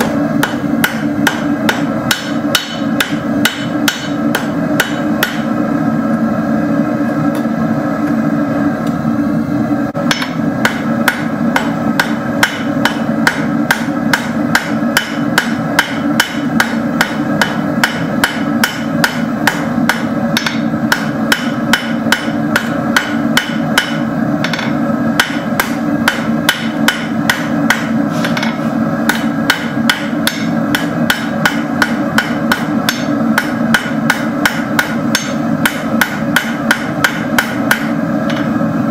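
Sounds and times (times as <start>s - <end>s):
hammer striking steel on anvil: 0.0s - 5.6s, 10.0s - 38.6s.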